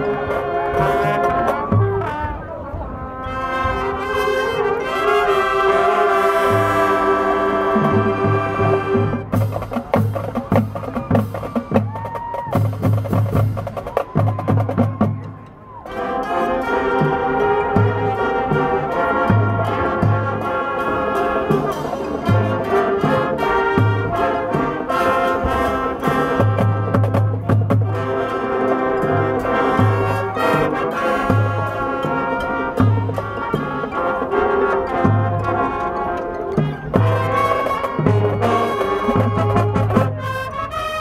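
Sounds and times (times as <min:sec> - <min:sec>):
brass section chords: 0:00.0 - 0:09.6, 0:15.8 - 0:41.0.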